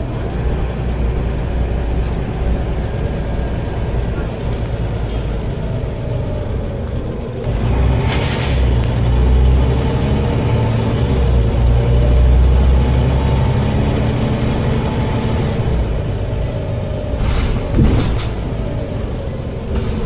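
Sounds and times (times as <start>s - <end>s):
bus diesel engine droning: 0.0s - 20.0s.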